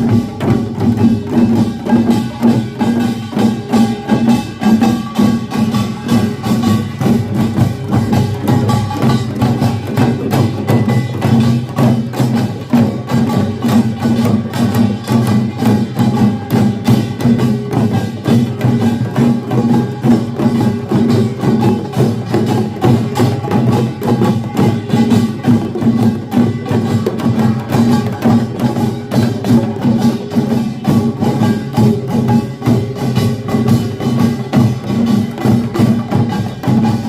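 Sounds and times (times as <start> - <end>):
drums struck: 0.0 - 37.0
folk percussion band playing: 0.0 - 37.0.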